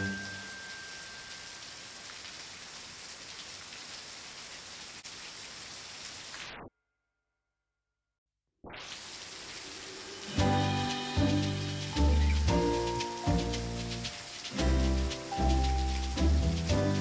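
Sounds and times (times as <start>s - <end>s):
steady rain falling: 0.0s - 6.6s, 8.8s - 17.0s.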